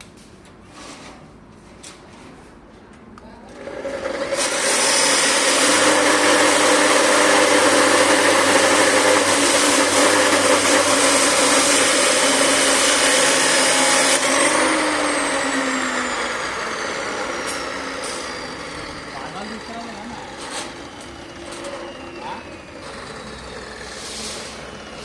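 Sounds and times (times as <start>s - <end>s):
machine winding down: 3.5s - 25.0s.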